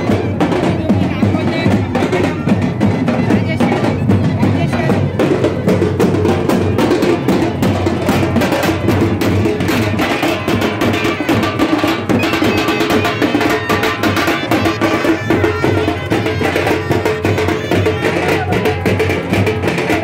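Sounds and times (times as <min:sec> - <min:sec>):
procession music with fast drumming: 0:00.0 - 0:20.0.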